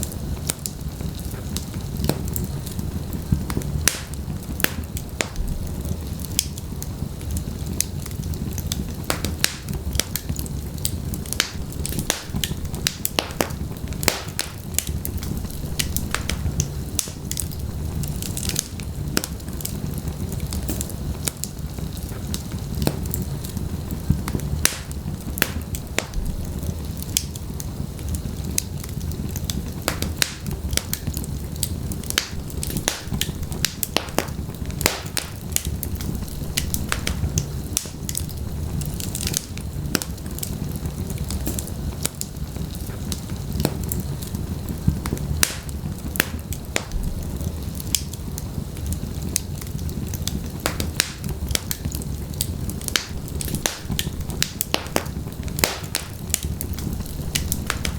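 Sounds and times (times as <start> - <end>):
low rumble of flames: 0.0 - 57.9
wood fire crackling and popping: 0.0 - 57.9.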